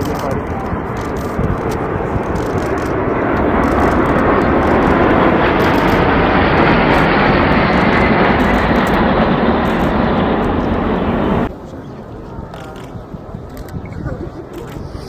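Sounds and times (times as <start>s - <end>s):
aircraft engine rushing: 0.0s - 15.0s.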